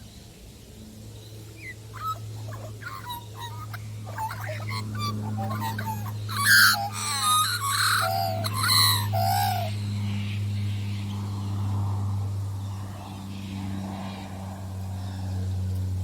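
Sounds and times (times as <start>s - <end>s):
steady low hum: 0.0s - 16.0s
birds squawking and chirping: 1.3s - 15.9s.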